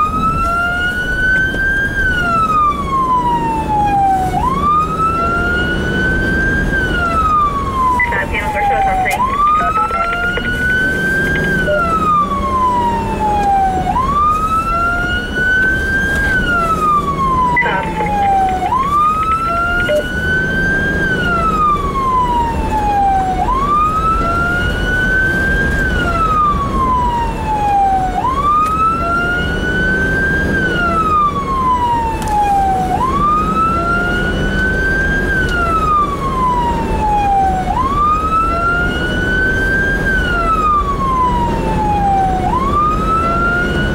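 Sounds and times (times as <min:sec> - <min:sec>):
engine and road noise: 0:00.0 - 0:43.9
siren wailing: 0:00.0 - 0:43.9.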